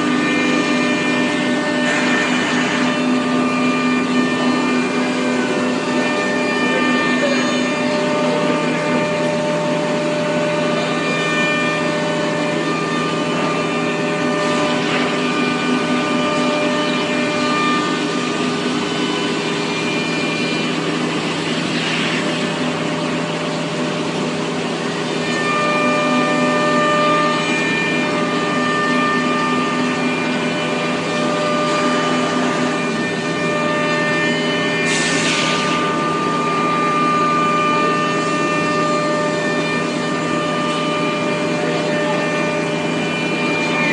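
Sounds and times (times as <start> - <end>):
machine hum: 0.0 - 43.9
steady machine tones: 0.0 - 43.9.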